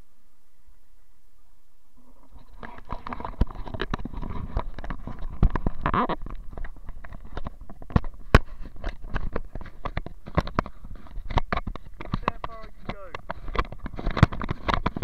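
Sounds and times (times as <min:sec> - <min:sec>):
camera handling rubbing and scraping: 0:02.1 - 0:15.0
sharp knocks and clicks: 0:02.6 - 0:15.0.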